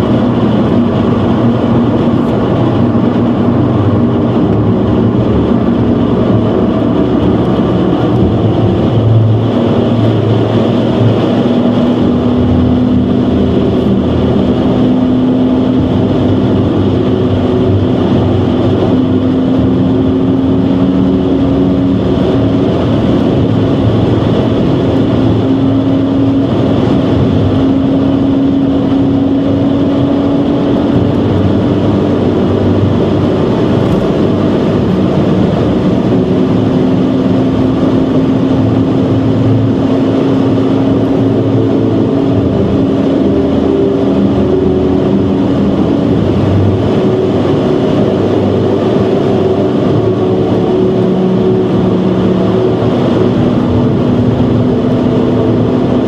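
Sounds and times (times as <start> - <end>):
car engine droning in cabin: 0.0 - 56.0
road and wind noise: 0.0 - 56.0.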